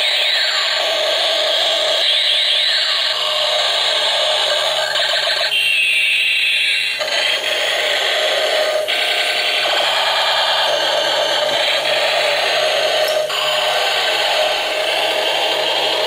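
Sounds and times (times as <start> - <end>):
toy helicopter motor whirring: 0.0 - 16.0.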